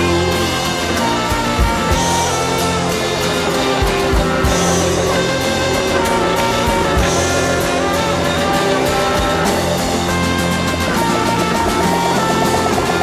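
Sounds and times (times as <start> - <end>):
soundtrack music with drums: 0.0 - 13.0.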